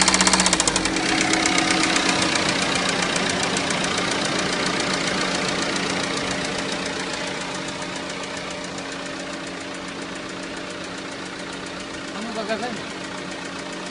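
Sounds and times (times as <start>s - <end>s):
diesel engine knocking: 0.0s - 13.9s.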